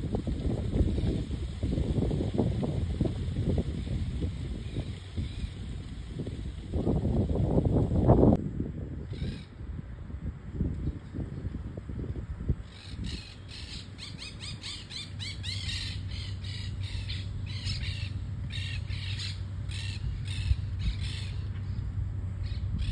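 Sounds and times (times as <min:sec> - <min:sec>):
low steady rumble: 0:00.0 - 0:22.9.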